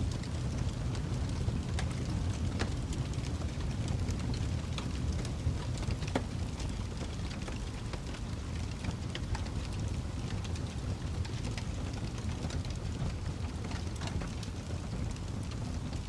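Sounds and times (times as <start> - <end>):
burning logs popping and snapping: 0.0 - 16.0
fire rumbling: 0.0 - 16.0.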